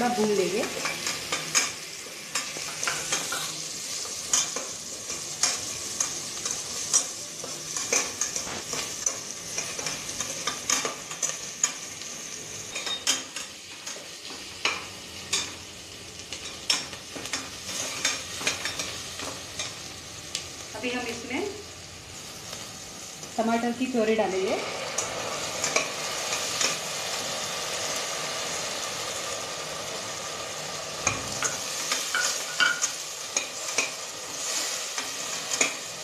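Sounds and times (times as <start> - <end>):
onions sizzling in hot fat: 0.0 - 36.0.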